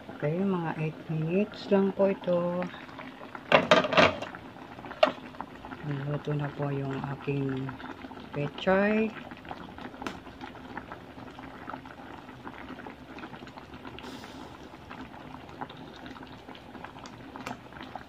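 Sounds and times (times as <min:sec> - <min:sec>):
broth boiling and bubbling: 0:00.0 - 0:18.0.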